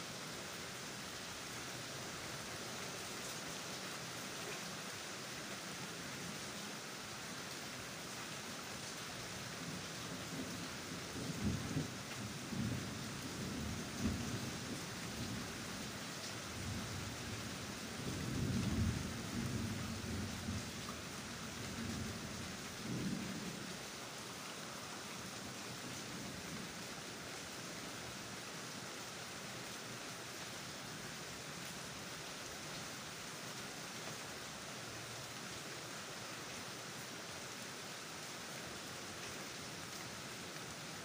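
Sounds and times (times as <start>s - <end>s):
rain hissing: 0.0s - 41.0s.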